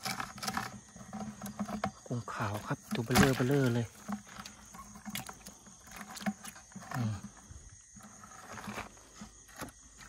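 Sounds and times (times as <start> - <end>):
high insect chirr: 0.0 - 10.0.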